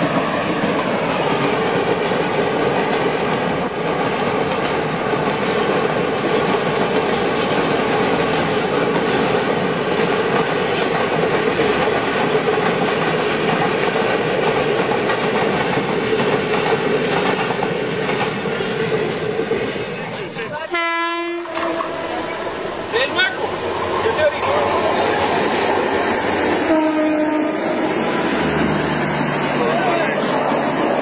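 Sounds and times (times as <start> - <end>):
wheels clacking on track: 0.0 - 20.7, 21.3 - 27.0
train rumble: 0.0 - 31.0.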